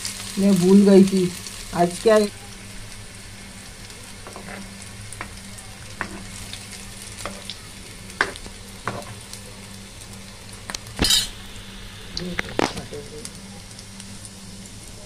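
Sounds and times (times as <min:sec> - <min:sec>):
patties sizzling in oil: 0:00.0 - 0:15.0.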